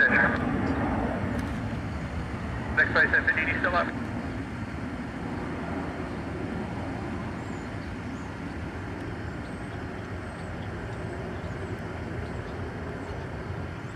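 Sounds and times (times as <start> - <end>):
distant jet engines rumbling: 0.0 - 13.9.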